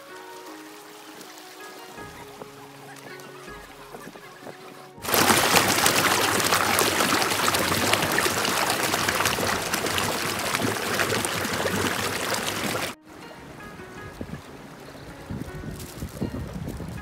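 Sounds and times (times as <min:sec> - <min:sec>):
faint music: 0:00.0 - 0:17.0
water rushing and gurgling: 0:00.0 - 0:17.0.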